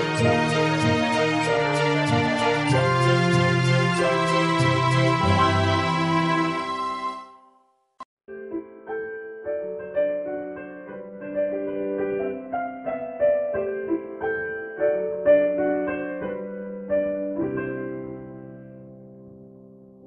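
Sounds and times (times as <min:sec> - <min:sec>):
gentle piano music: 0:00.0 - 0:07.6, 0:08.3 - 0:20.0.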